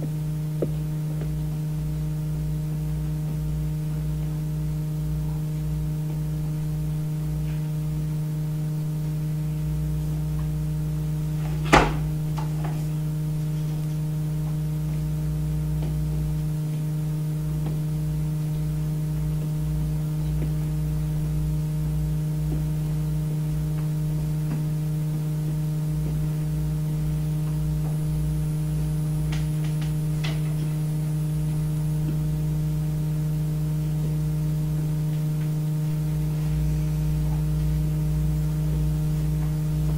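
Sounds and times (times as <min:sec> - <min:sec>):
deep rumble: 0:00.0 - 0:39.9
low electrical hum: 0:00.0 - 0:39.9.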